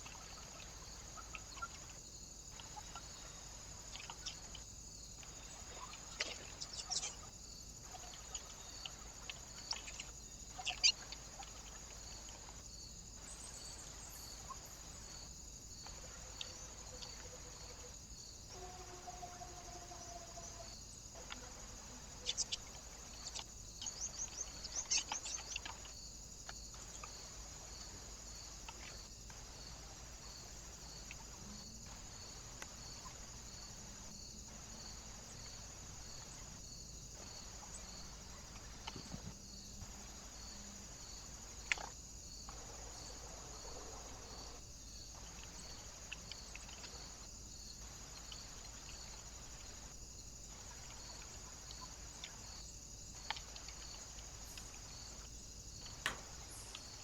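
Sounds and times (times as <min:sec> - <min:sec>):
small birds chirping: 0:00.0 - 0:18.3, 0:19.9 - 0:49.9, 0:53.2 - 0:57.0
steady high hiss: 0:00.0 - 0:57.0.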